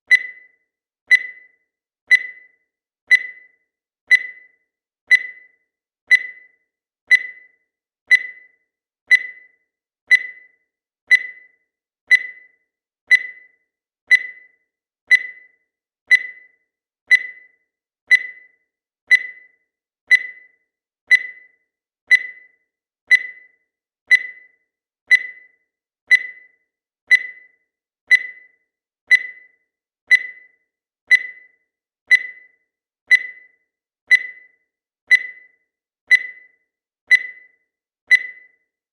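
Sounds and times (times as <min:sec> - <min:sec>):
digital timer beeping: 0:00.0 - 0:38.9.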